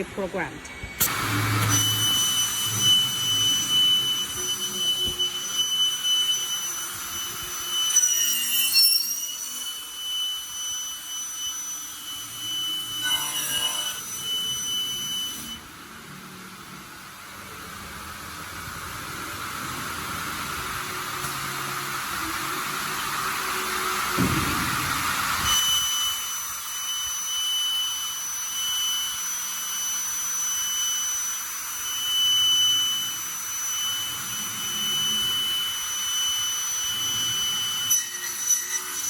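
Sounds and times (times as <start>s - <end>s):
cnc machine whining: 0.0s - 39.0s.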